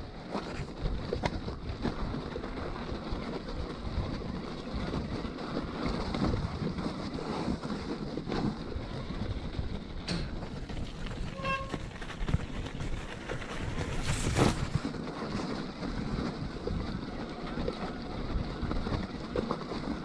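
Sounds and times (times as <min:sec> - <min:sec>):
bike tyres rumbling: 0:00.0 - 0:20.0
wind buffeting microphone: 0:00.0 - 0:20.0.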